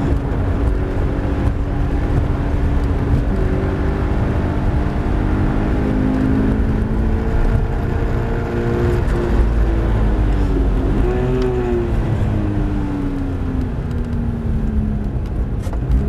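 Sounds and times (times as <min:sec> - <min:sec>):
car engine accelerating: 0:00.0 - 0:16.0
tyre and road noise: 0:00.0 - 0:16.0.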